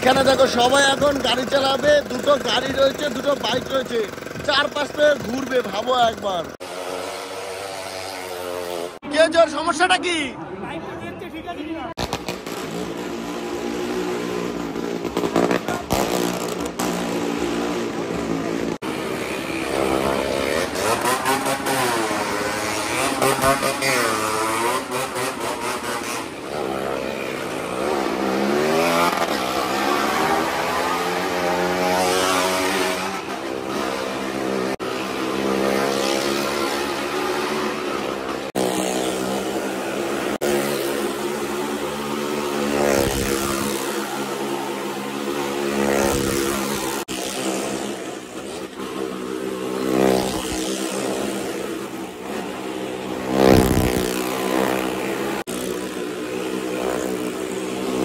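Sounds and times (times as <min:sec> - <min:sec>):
motorcycle engines revving: 0:00.0 - 0:10.8, 0:11.4 - 0:58.0.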